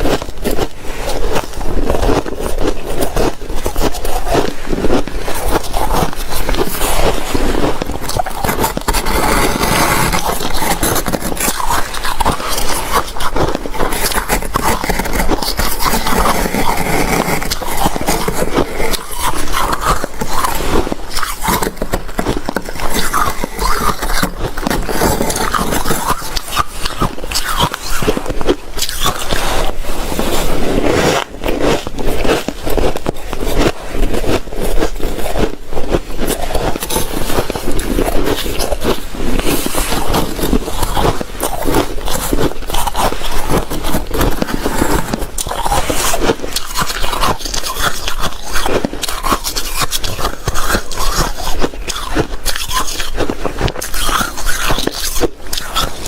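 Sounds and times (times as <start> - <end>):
shaved ice crunching: 0.0 - 56.0.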